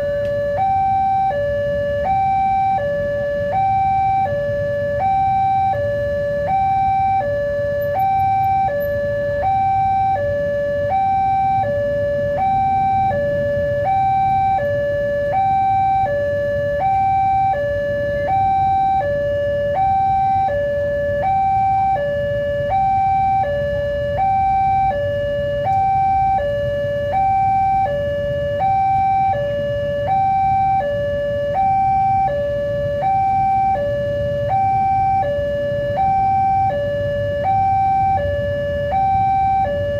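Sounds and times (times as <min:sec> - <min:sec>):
two-tone level-crossing alarm: 0:00.0 - 0:39.9.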